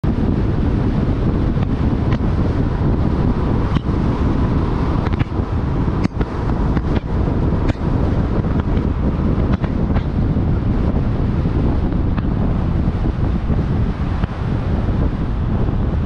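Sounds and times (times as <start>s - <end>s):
vehicle driving rumble: 0.0s - 16.0s
wind buffeting microphone: 0.0s - 16.0s.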